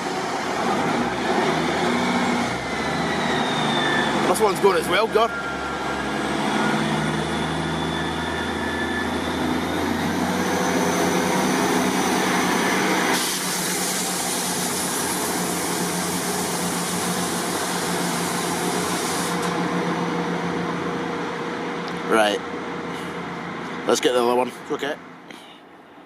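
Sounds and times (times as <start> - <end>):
train diesel engines running: 0.0 - 26.0.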